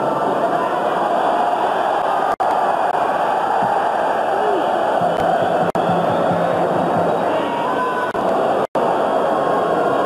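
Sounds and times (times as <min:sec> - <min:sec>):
stadium crowd roar: 0:00.0 - 0:10.0.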